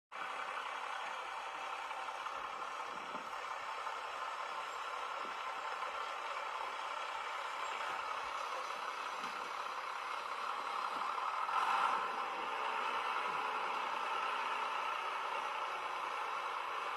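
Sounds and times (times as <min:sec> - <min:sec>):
tractor engine running: 0:00.1 - 0:16.9.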